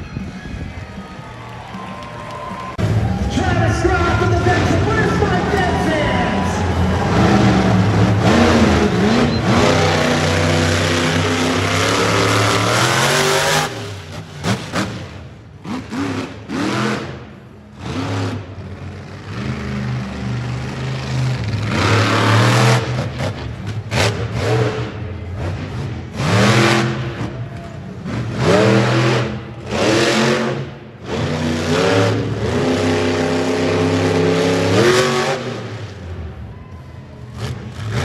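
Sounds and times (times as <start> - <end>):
monster truck engine revving: 2.7 - 38.0.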